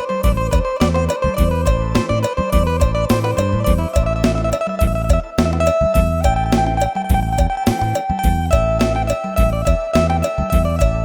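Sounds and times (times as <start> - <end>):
bass: 0.0 - 11.0
plucked lute melody: 0.0 - 11.0
regular drum beat: 0.0 - 11.0.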